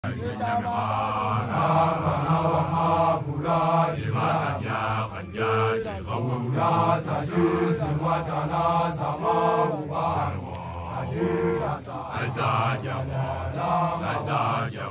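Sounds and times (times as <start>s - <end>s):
men chanting together: 0.0s - 14.9s.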